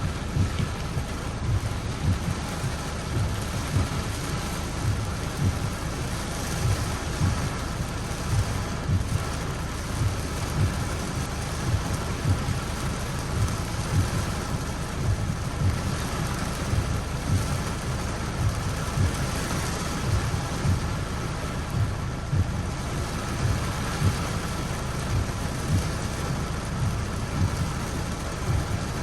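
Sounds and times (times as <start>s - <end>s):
low thuds: 0.0s - 29.0s
steady rain: 0.0s - 29.0s.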